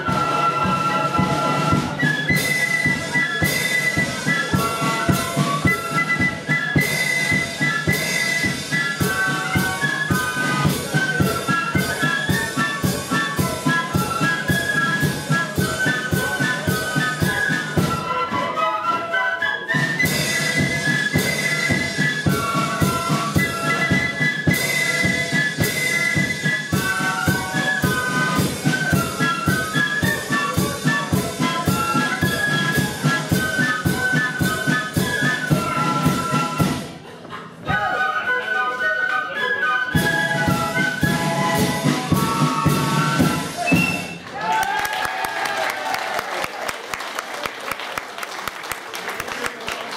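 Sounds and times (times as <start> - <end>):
piccolos playing melody: 0.0 - 37.0, 37.6 - 44.2
drums: 0.0 - 38.3, 39.2 - 49.9.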